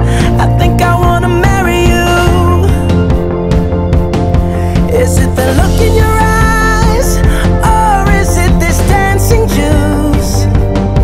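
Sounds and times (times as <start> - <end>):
song with drums and melody: 0.0 - 11.0.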